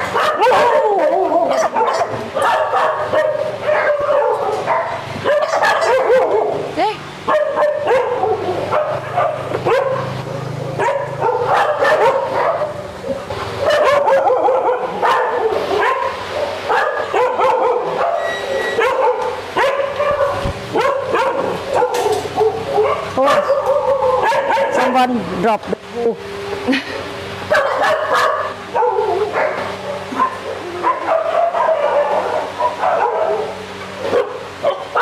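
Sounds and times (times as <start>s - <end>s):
dogs barking and yelping: 0.0s - 25.1s, 27.4s - 35.0s.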